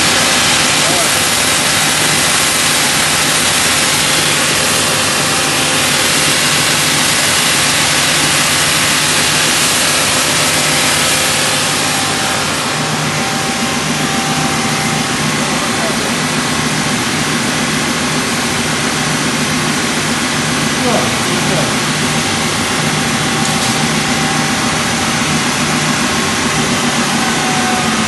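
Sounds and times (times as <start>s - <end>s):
sanding machine running: 0.0s - 28.0s.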